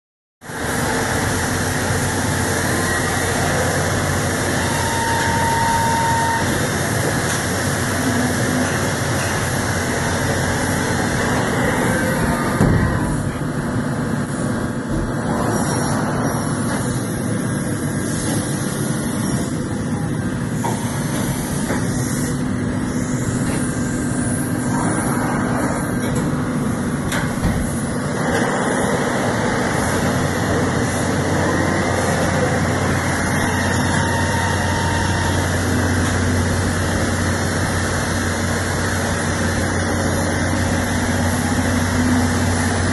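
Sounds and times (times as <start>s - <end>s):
deeper hum: 0.5s - 42.9s
milling machine humming: 0.5s - 42.9s.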